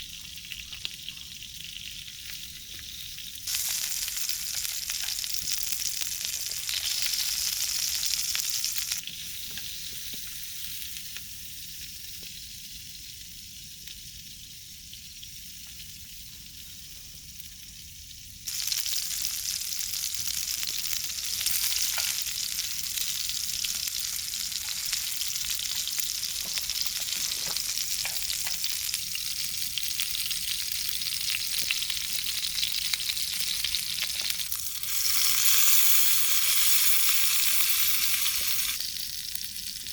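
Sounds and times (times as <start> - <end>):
food sizzling in frying: 0.0 - 39.9.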